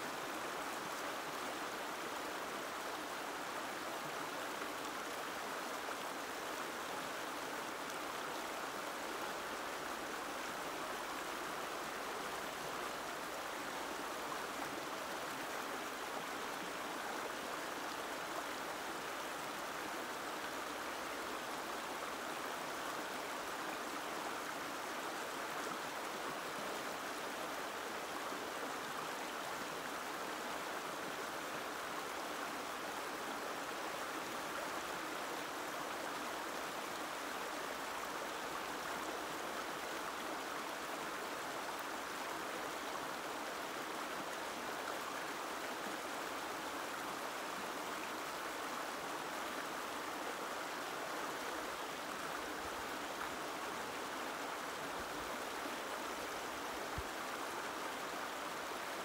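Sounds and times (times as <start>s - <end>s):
river stream flowing: 0.0s - 59.0s.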